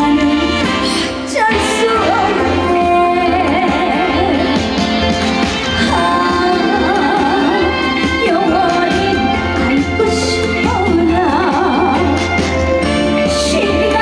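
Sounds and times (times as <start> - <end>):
amplified band with bass beat: 0.0 - 14.0
person singing with vibrato: 0.0 - 14.0.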